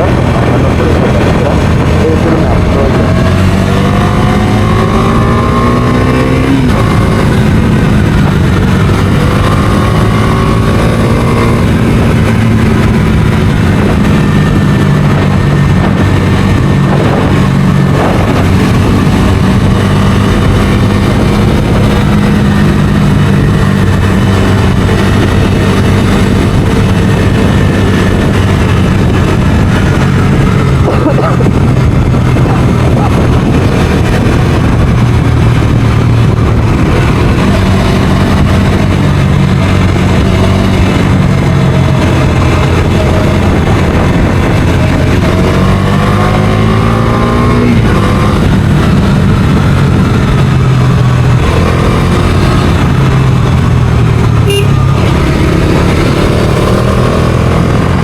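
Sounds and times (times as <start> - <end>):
motorcycle engine on the road: 0.0 - 58.0.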